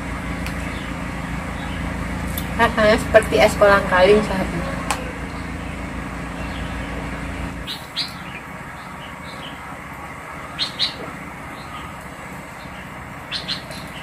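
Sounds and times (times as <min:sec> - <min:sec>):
low steady rumble: 0:00.0 - 0:14.0
small birds chirping: 0:00.1 - 0:14.0.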